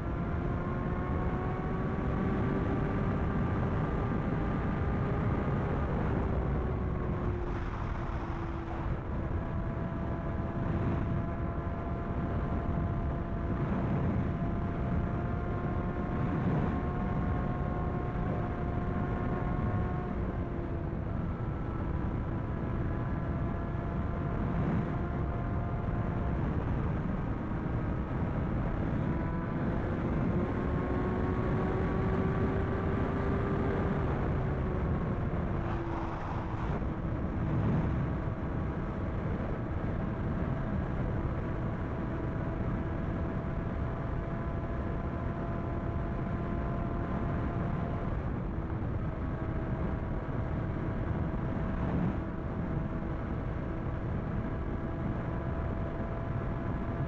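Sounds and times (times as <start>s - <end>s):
heavy wind and road rush: 0.0s - 57.0s
motorcycle engine cruising: 0.0s - 57.0s.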